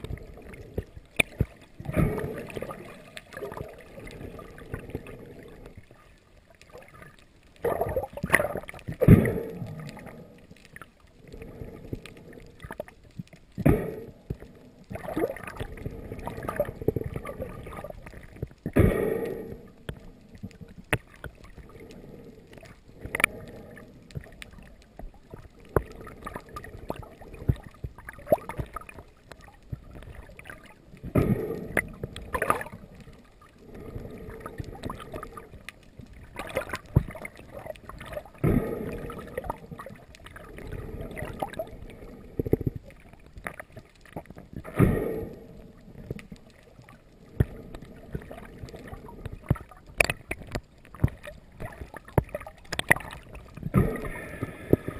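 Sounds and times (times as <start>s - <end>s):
water sloshing and gurgling: 0.0s - 54.9s.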